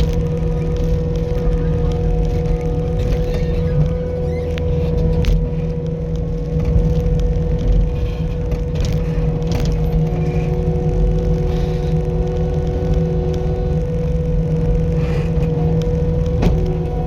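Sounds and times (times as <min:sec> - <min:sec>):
loader engine running: 0:00.0 - 0:17.0
steady whine: 0:00.0 - 0:17.0.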